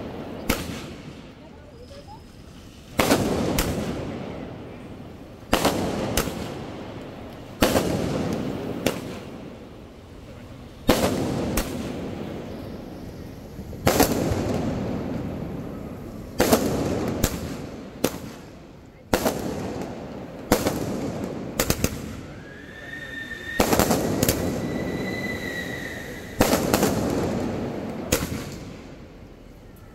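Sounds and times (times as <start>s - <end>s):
smaller firework crack: 0.0s - 1.5s, 2.6s - 10.0s, 10.7s - 22.3s, 23.4s - 29.3s
fireworks bangs: 0.0s - 29.3s
rolling echo: 3.0s - 29.9s.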